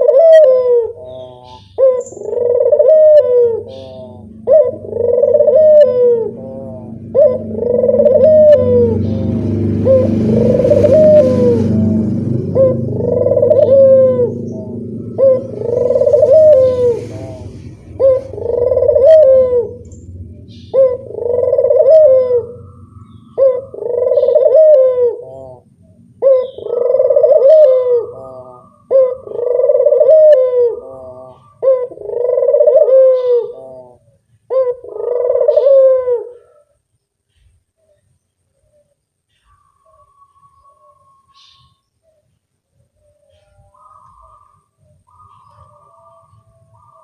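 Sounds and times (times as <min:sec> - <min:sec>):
dove cooing: 0:00.0 - 0:38.0, 0:43.0 - 0:47.0.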